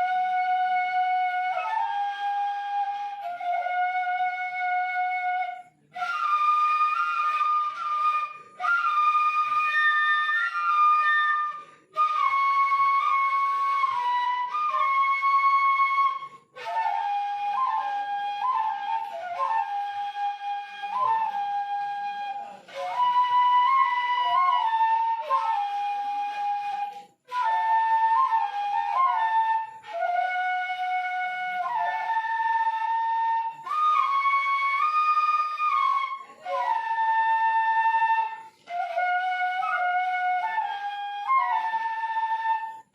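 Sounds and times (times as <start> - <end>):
bamboo flutes playing melody: 0.0 - 42.9.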